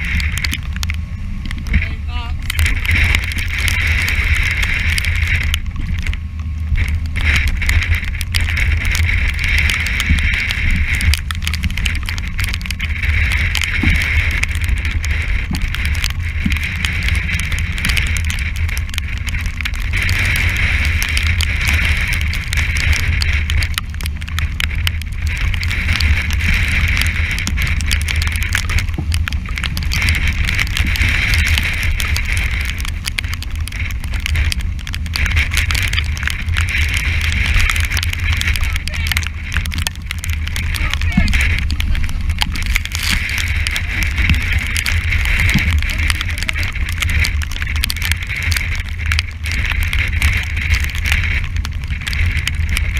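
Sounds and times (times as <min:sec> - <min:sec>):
sea rushing along hull: 0:00.0 - 0:52.9
wind buffeting microphone: 0:00.0 - 0:52.9.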